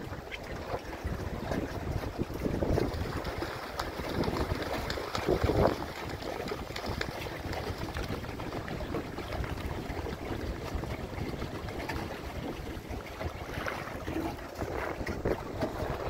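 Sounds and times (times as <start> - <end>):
swans splashing and flapping: 0.0 - 16.0
water trickling and gurgling: 0.0 - 16.0.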